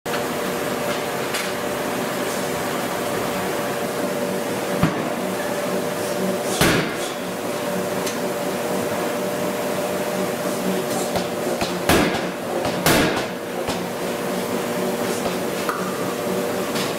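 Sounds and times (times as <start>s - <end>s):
forge machinery hum: 0.1s - 16.9s.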